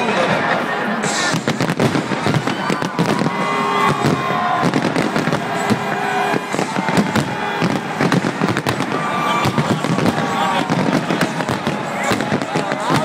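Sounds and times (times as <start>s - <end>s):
fireworks bursting: 0.9s - 13.0s.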